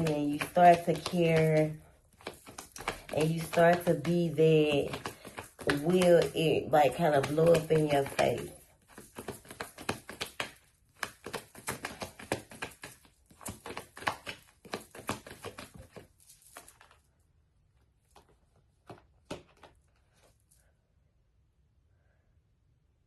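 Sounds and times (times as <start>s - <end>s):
cards being shuffled: 0.0s - 17.1s, 18.0s - 20.5s.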